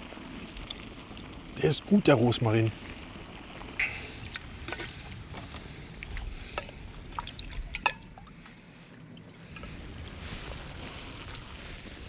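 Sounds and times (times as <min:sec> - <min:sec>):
risotto simmering in a pan: 0:00.0 - 0:12.0.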